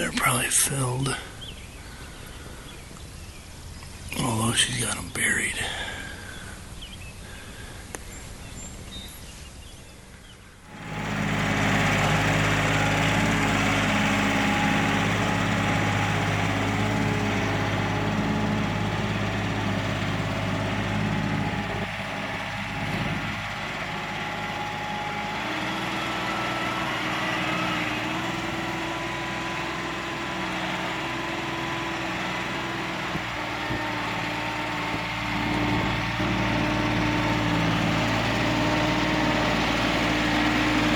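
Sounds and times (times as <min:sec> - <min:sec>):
tractor diesel engine running: 0:00.0 - 0:09.1, 0:10.6 - 0:40.9.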